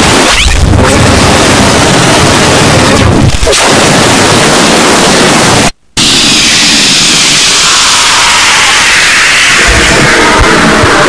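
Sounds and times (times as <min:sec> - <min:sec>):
harsh wall of noise: 0:00.0 - 0:11.0.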